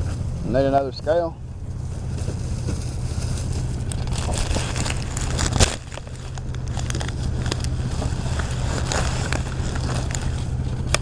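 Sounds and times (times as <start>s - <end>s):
vehicle engine idling: 0.0s - 11.0s
rustling and handling noises: 1.8s - 11.0s.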